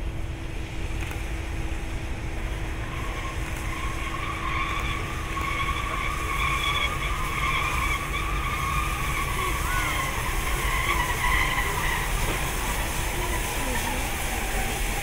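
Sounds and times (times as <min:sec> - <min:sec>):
steam locomotive rumbling: 0:00.0 - 0:15.0
wheels squealing on rails: 0:01.8 - 0:15.0.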